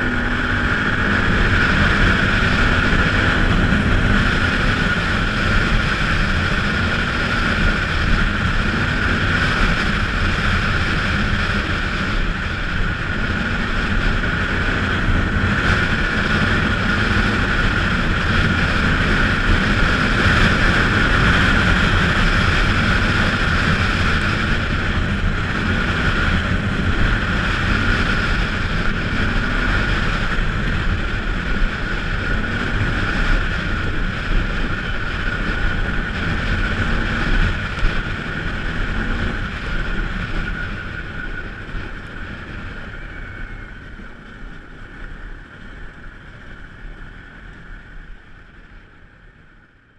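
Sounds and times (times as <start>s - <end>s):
wind buffeting microphone: 0.0s - 48.8s
atv engine running: 0.0s - 49.9s.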